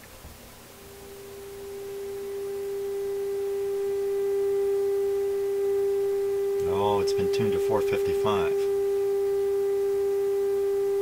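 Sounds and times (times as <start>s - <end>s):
steady mid-pitched tone: 0.6s - 11.0s.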